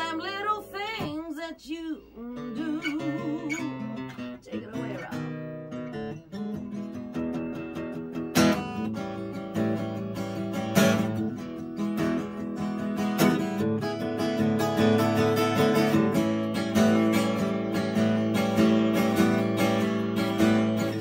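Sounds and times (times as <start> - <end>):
acoustic guitar strumming: 2.1 - 21.0.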